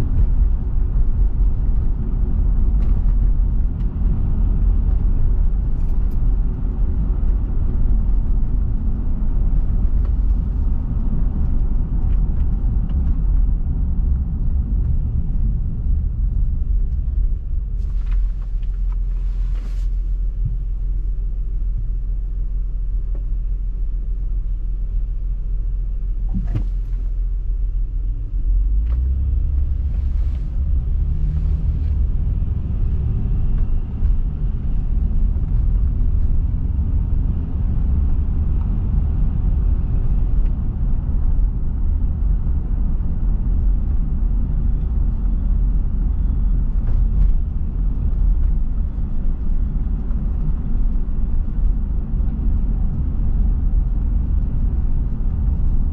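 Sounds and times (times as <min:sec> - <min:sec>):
car road and tyre rumble: 0:00.0 - 0:55.9.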